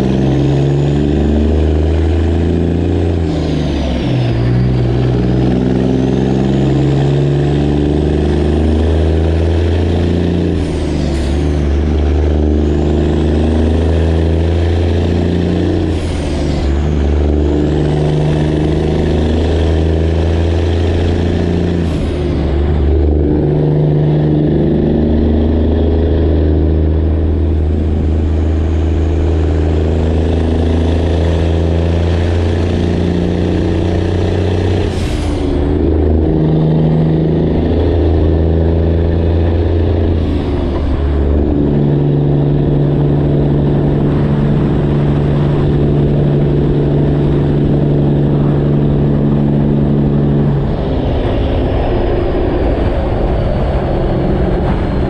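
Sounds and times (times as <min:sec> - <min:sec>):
truck diesel engine shifting gears: 0:00.0 - 0:55.0.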